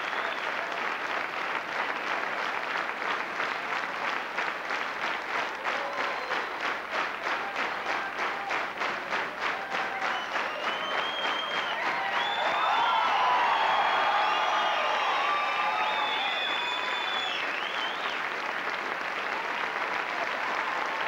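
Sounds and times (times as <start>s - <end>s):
audience clapping in unison: 0.0s - 21.0s.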